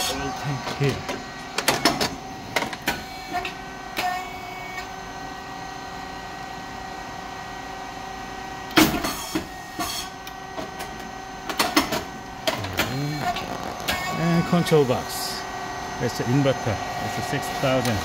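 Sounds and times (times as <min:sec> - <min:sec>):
machine motor and fan humming: 0:00.0 - 0:18.0.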